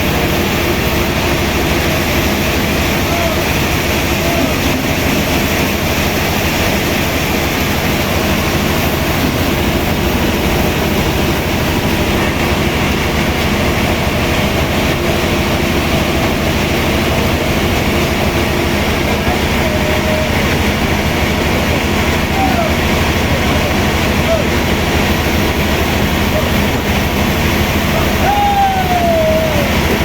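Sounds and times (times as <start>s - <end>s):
sawmill machinery running: 0.0s - 30.0s.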